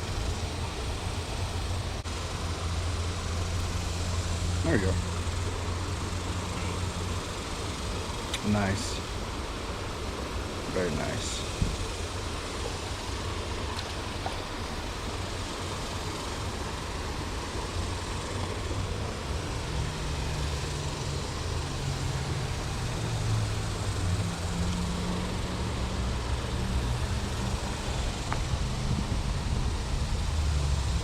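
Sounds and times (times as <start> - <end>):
road traffic noise: 0.0 - 31.0
vehicle engine low hum: 0.0 - 31.0.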